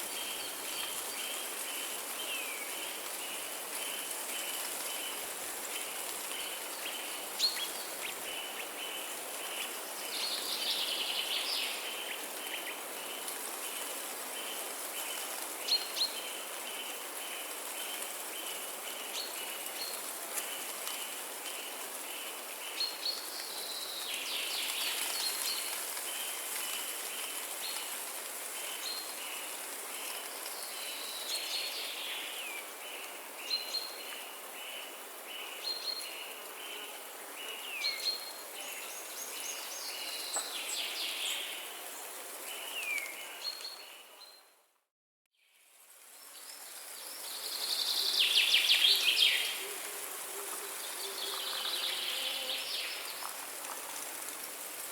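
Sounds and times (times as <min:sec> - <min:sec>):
high steady hiss: 0:00.0 - 0:44.2, 0:45.6 - 0:54.9.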